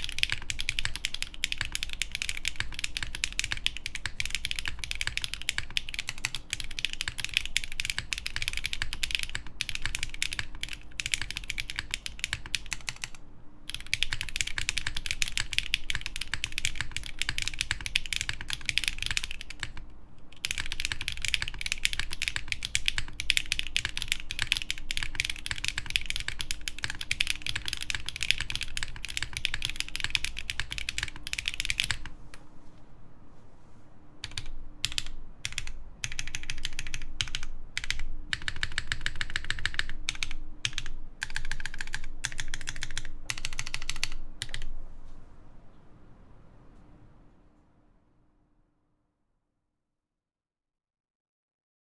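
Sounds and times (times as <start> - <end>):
typing on mechanical keyboard: 0.0 - 32.4, 34.2 - 44.7.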